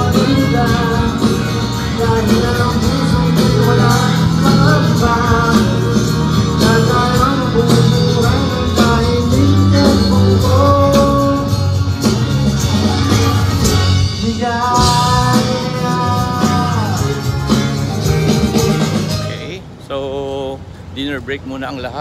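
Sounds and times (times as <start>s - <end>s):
person singing: 0.0s - 11.7s, 12.9s - 19.5s
bass guitar: 0.0s - 19.8s
guitar: 0.0s - 21.9s.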